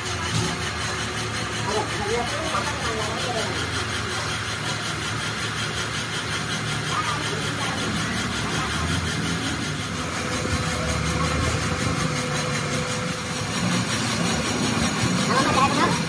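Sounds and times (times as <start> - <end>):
motor running: 0.0 - 16.0.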